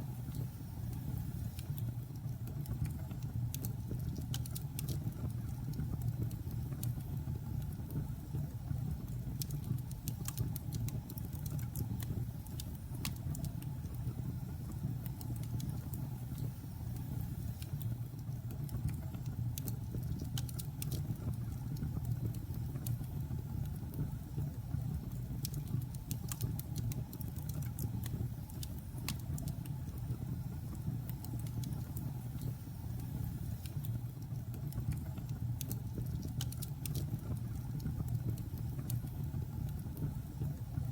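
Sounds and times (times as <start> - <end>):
fire crackling and popping: 0.1 - 40.9.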